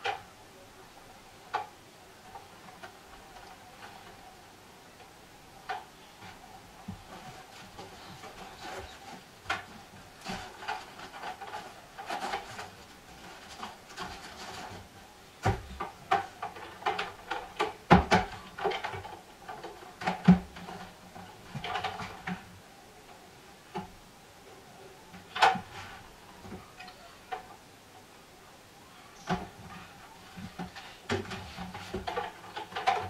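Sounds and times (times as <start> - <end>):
rubber cables rubbing and rustling: 1.1 - 27.7, 29.0 - 33.0.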